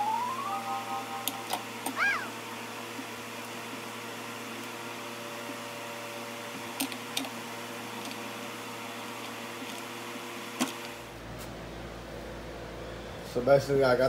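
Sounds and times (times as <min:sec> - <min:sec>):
mechanical hum with tones: 0:00.0 - 0:14.0.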